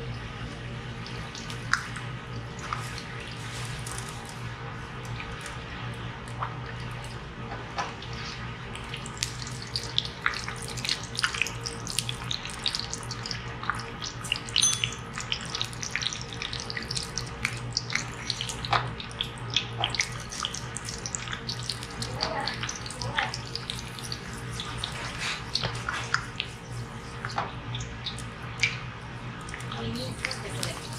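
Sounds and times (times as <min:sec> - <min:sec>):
nuts deep-frying in oil: 0:00.0 - 0:30.9
oil popping and crackling: 0:01.0 - 0:30.9.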